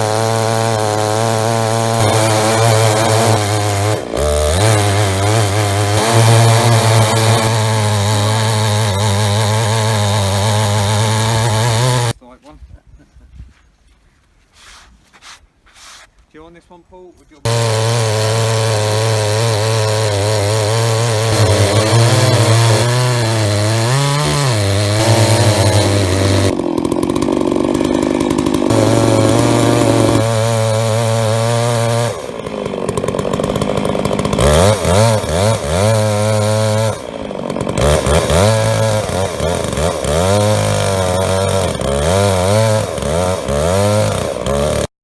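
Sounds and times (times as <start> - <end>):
chainsaw cutting log: 0.0 - 12.2, 17.4 - 44.9.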